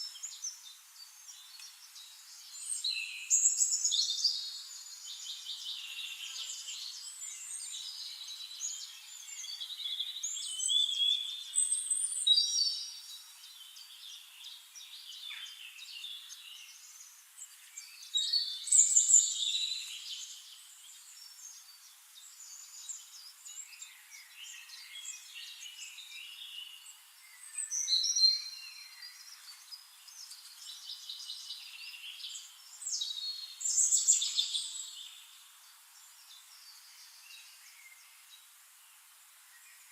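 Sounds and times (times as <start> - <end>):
forest birds singing and calling: 0.0 - 39.9.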